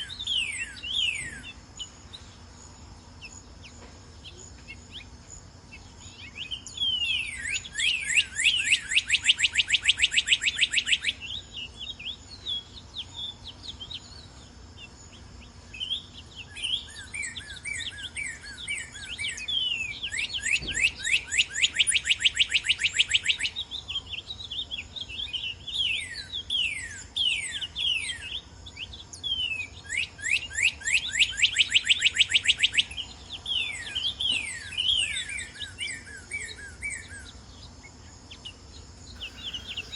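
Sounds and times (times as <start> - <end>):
bird singing whistles: 0.0 - 2.2, 5.8 - 14.3, 15.7 - 24.0, 24.7 - 37.4, 39.0 - 39.9.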